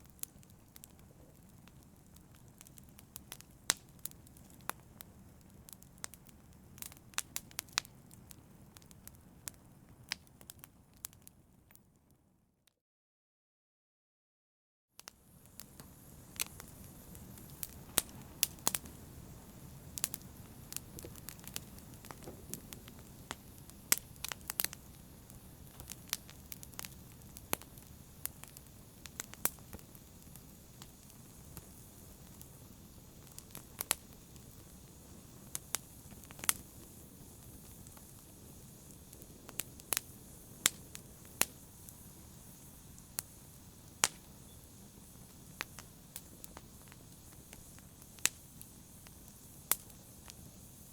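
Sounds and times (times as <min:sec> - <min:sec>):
wood fire crackling: 0:00.0 - 0:11.8, 0:15.0 - 0:50.9.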